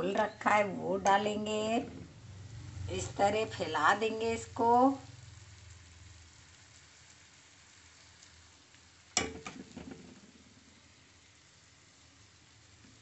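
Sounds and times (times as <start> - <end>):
batter sizzling in a pan: 2.1 - 13.0.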